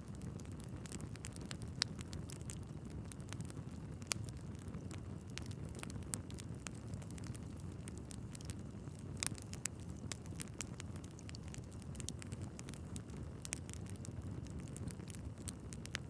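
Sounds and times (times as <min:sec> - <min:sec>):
fire rumbling: 0:00.0 - 0:16.0
logs crackling and popping: 0:00.0 - 0:16.0.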